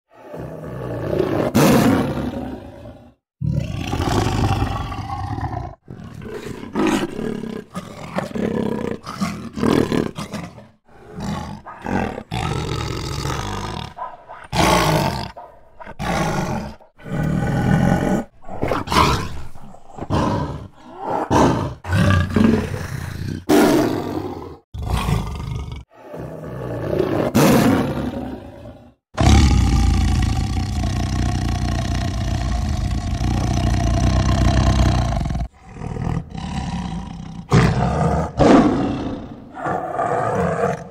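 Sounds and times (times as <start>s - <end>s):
tiger roaring and growling: 0.1s - 40.9s.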